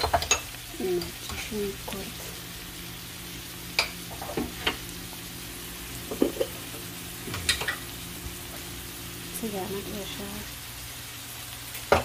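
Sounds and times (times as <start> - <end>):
onions sizzling in a frying pan: 0.0 - 12.0.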